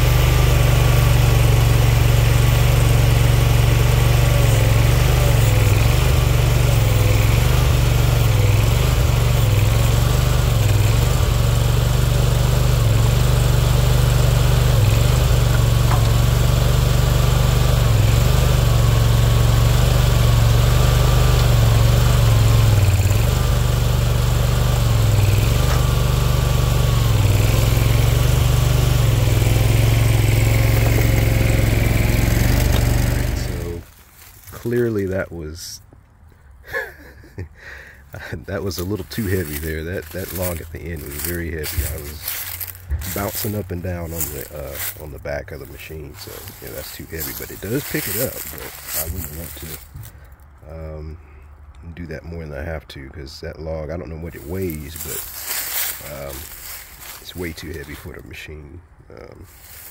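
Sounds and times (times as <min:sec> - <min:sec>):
engine running under load: 0:00.0 - 0:52.3, 0:53.5 - 0:59.9.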